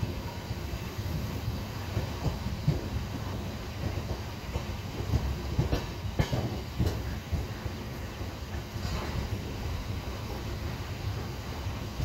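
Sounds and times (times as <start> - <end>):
train coaches rumbling: 0.0 - 12.0
wheels clacking on rails: 0.0 - 12.0.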